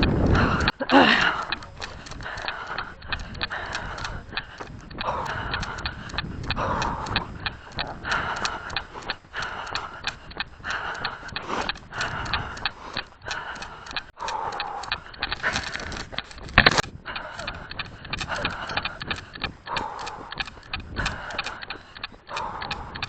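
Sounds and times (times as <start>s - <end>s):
runner's footfalls: 0.0s - 23.0s.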